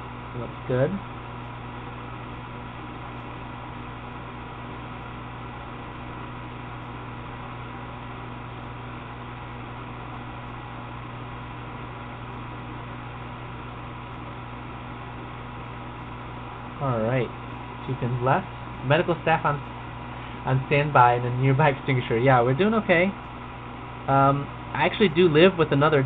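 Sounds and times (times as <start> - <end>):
constant tones: 0.0 - 26.0
steady hum and hiss: 0.0 - 26.0.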